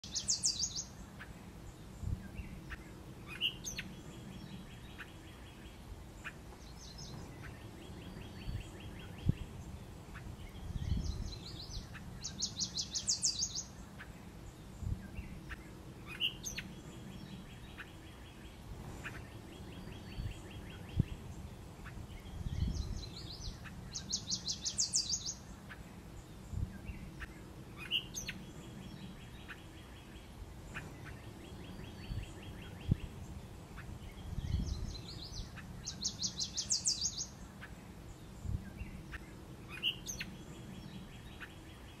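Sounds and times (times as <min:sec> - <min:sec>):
low outdoor rumble: 0:00.0 - 0:42.0
songbird trills: 0:00.0 - 0:42.0.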